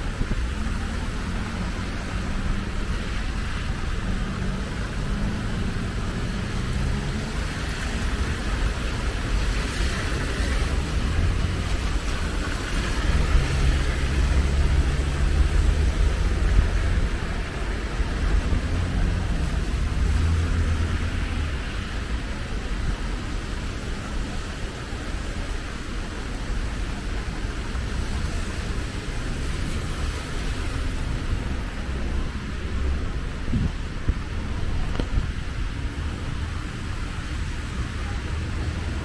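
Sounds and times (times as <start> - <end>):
car engines humming: 0.0 - 39.0
tyres hissing on wet road: 0.0 - 39.0.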